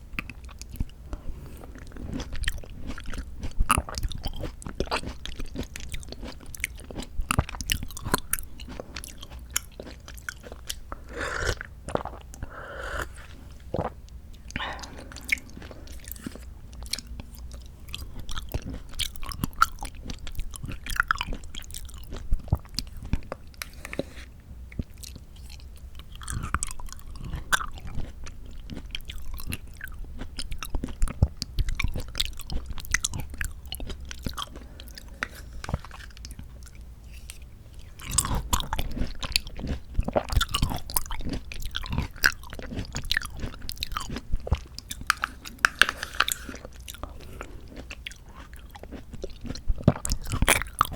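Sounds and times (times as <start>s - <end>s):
wet chewing: 0.2s - 24.2s, 24.8s - 50.9s.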